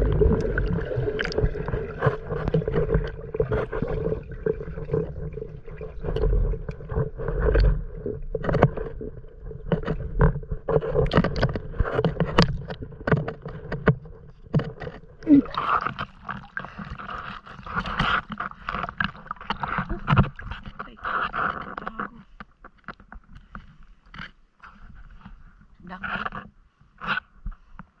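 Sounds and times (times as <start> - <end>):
muffled underwater clicks and knocks: 0.0 - 28.0
water splashing and sloshing: 0.0 - 28.0.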